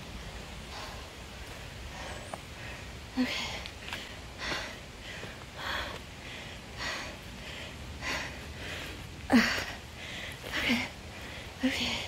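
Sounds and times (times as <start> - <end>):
woman breathing hard: 0.6 - 12.0.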